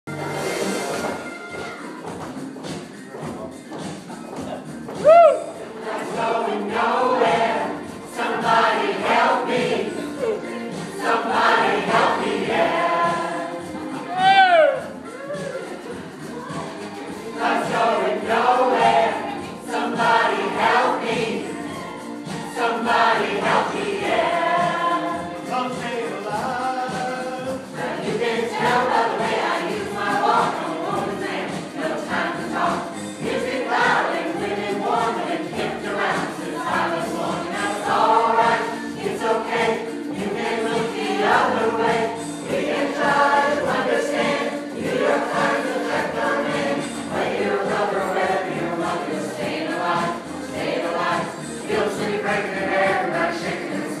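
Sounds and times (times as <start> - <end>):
choir singing: 0.1 - 2.1, 5.4 - 54.0.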